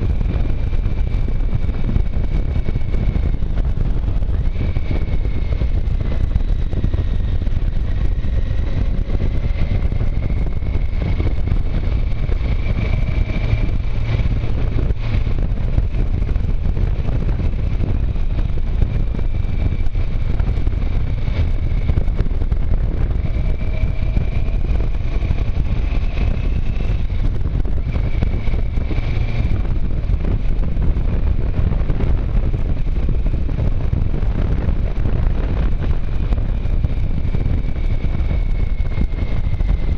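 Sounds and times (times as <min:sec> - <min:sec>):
faint wavering high whine: 0:00.0 - 0:39.9
motorcycle engine: 0:00.0 - 0:39.9
wind rumble on microphone: 0:00.0 - 0:39.9.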